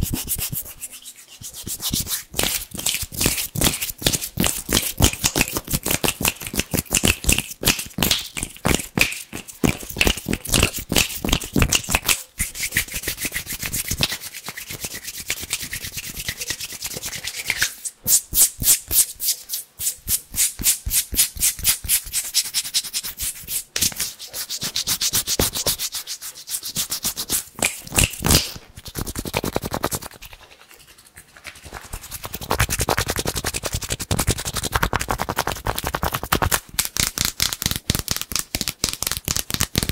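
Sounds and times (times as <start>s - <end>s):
hands rubbing together: 0.0s - 39.9s.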